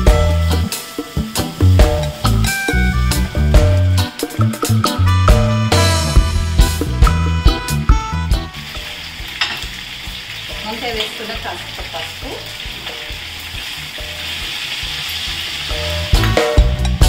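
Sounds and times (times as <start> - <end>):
vegetables sizzling in oil: 0.0 - 5.1, 8.2 - 17.0.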